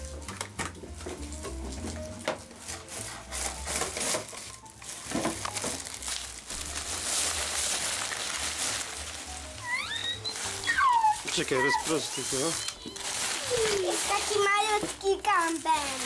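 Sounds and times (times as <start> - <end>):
plastic bag crinkling: 1.1 - 16.0
nylon fabric rustling: 1.8 - 16.0.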